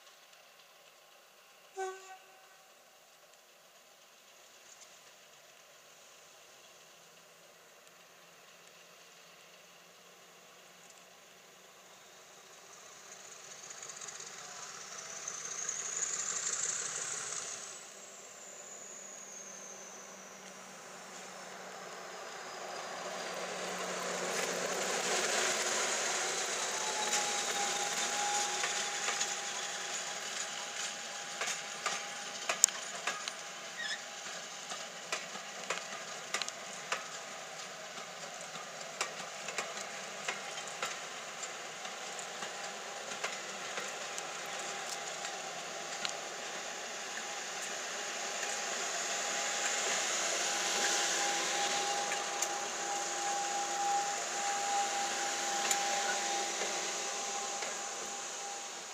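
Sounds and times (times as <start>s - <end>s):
diesel locomotive engine and fans: 0.0s - 58.9s.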